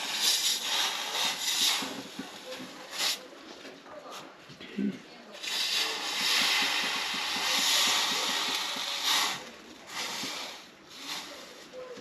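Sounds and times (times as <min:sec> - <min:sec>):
refrigerant line hissing: 0:00.0 - 0:03.4, 0:05.3 - 0:12.0.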